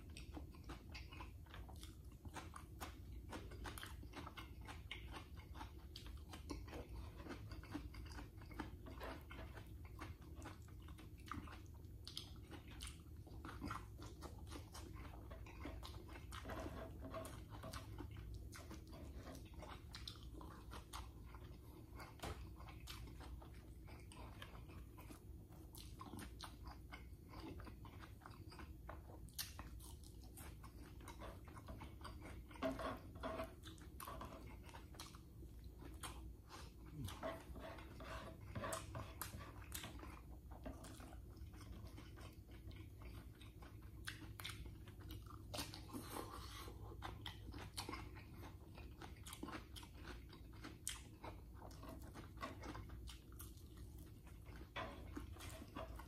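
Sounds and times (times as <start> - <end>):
low steady hum: 0.0 - 56.0
person chewing and crunching food: 0.0 - 56.0.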